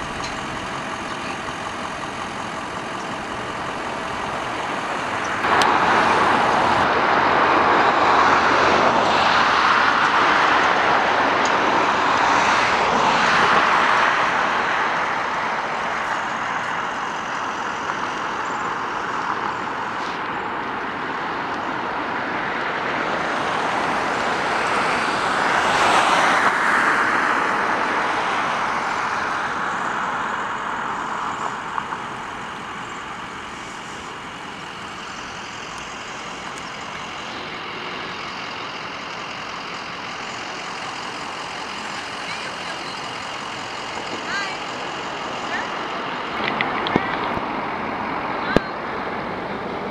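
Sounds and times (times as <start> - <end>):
cars driving by: 0.0 - 49.9.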